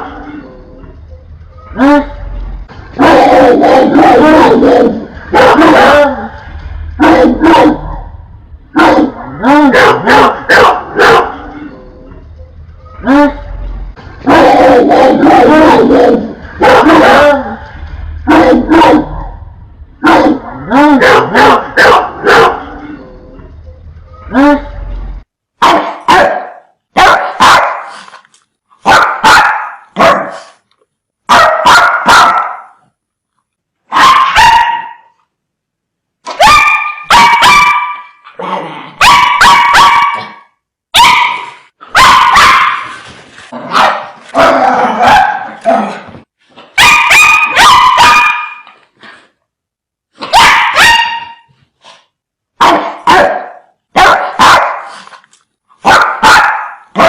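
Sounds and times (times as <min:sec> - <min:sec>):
dogs barking fiercely: 0:01.7 - 0:12.3, 0:13.0 - 0:23.6, 0:24.2 - 0:28.1, 0:28.8 - 0:30.6, 0:31.3 - 0:32.8, 0:33.9 - 0:35.1, 0:36.2 - 0:48.9, 0:50.2 - 0:51.5, 0:52.6 - 0:57.0.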